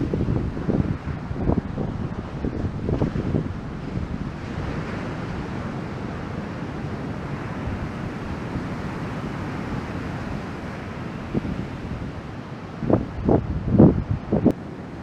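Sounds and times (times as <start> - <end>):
ocean surf rushing: 0.0 - 15.0
wind noise on microphone: 0.0 - 15.0.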